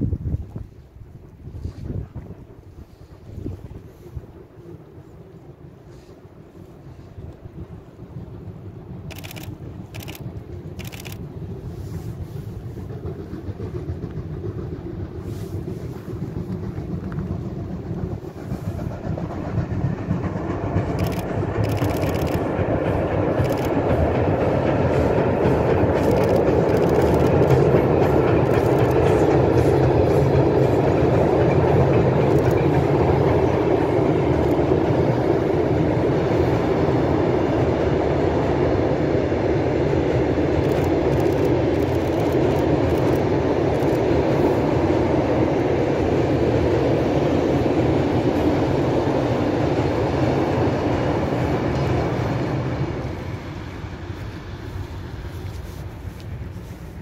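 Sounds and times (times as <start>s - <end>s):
train rumbling over a steel bridge: 0.0s - 57.0s.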